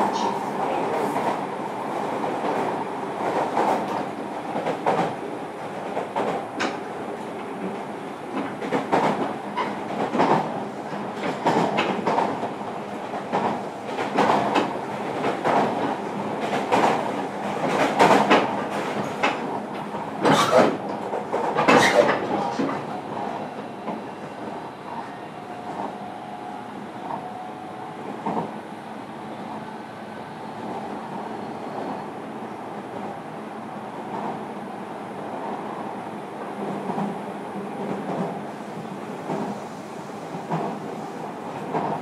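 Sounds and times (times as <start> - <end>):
train running gear rumbling: 0.0 - 42.0.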